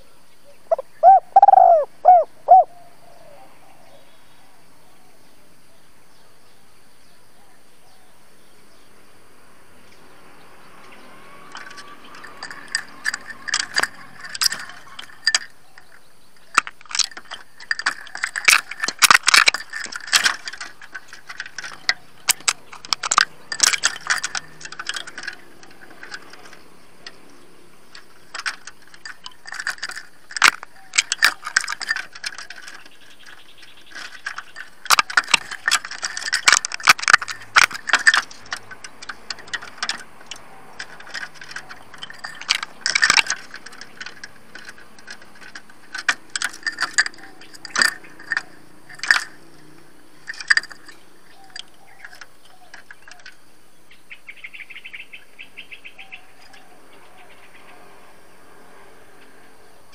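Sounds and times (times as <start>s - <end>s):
wire cage rattling: 9.8s - 59.9s.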